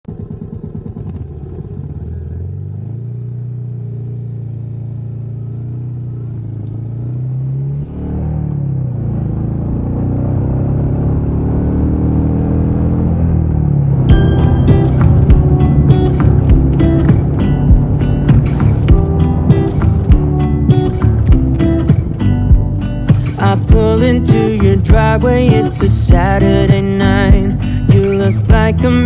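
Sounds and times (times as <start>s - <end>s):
vehicle engine accelerating: 0.1s - 29.0s.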